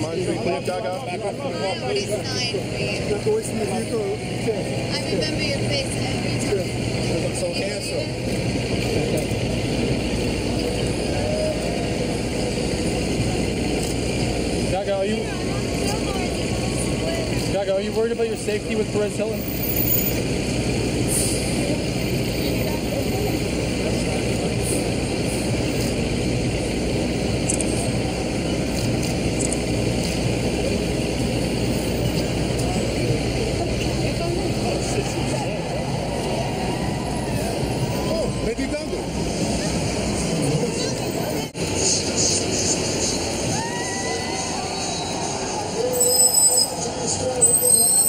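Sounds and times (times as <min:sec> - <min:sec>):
city traffic rumble: 0:00.0 - 0:48.0
vehicle engines running: 0:00.0 - 0:48.0.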